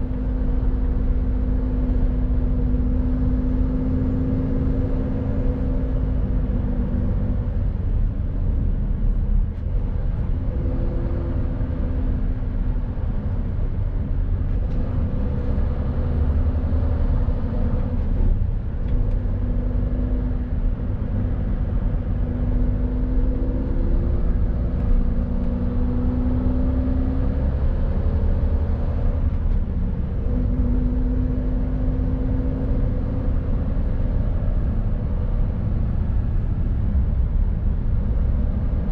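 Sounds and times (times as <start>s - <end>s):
lorry diesel engine rumble: 0.0s - 38.9s.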